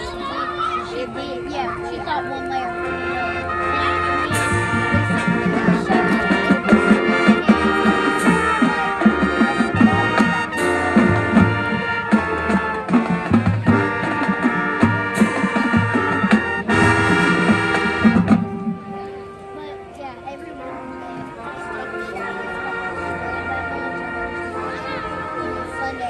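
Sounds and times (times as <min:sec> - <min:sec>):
marching band brass chords: 0:00.0 - 0:26.0.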